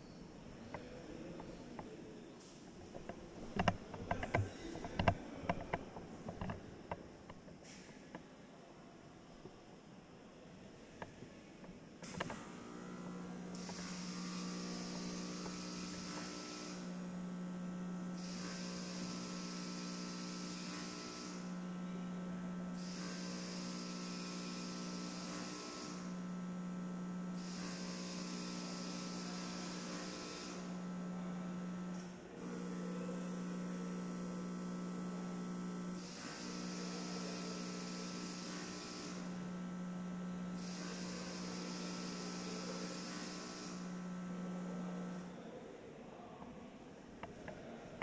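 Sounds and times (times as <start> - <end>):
low electric hum: 0.0 - 48.0.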